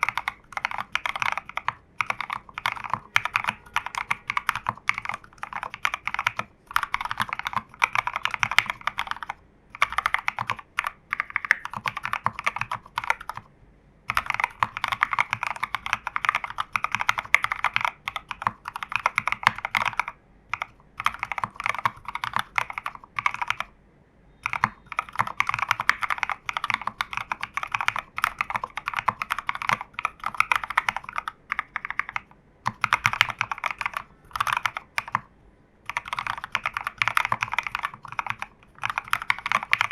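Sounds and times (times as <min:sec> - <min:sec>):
mechanical keyboard typing: 0:00.0 - 0:13.5, 0:14.1 - 0:23.7, 0:24.4 - 0:39.9.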